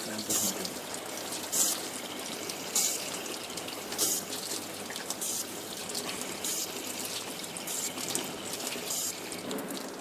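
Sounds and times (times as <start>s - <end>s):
water running in washing machine: 0.0s - 10.0s.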